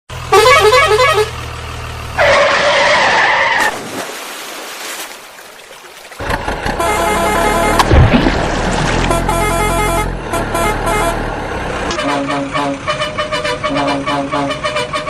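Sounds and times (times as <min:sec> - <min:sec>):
vehicle noise: 0:00.1 - 0:04.0, 0:06.1 - 0:15.0.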